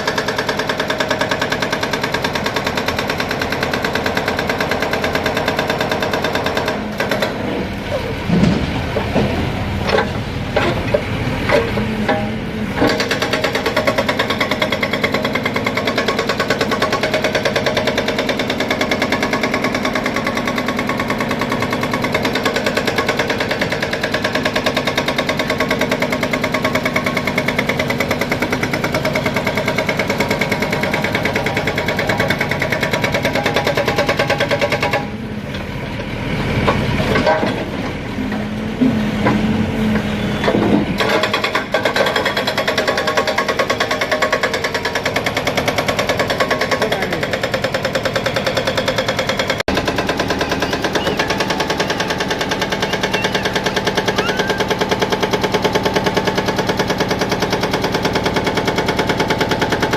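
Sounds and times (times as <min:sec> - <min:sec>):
engine clattering: 0:00.0 - 0:59.9.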